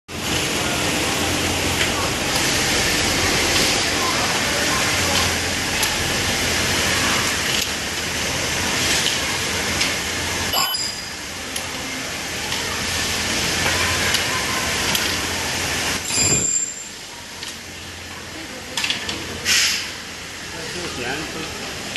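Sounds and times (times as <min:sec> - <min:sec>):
machinery hum and hiss: 0:00.1 - 0:21.9.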